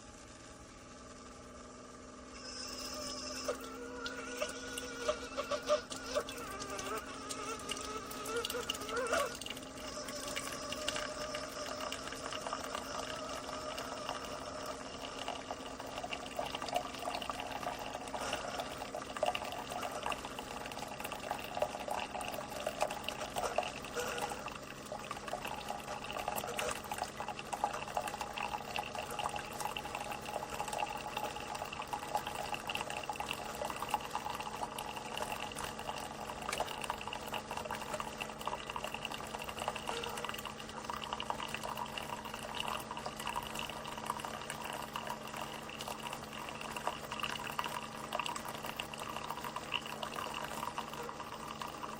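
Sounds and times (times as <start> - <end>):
coffee maker humming: 0.0 - 51.9
liquid pouring into cup: 2.3 - 51.9.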